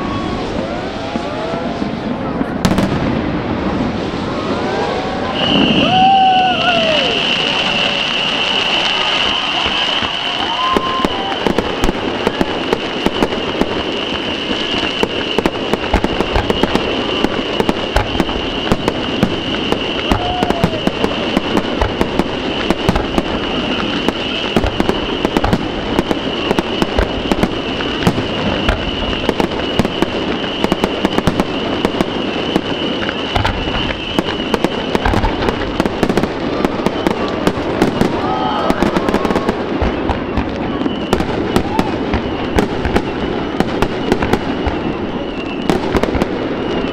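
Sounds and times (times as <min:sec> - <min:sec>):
fireworks bursting with bangs: 0:00.0 - 0:46.9
fireworks crackling: 0:00.0 - 0:46.9.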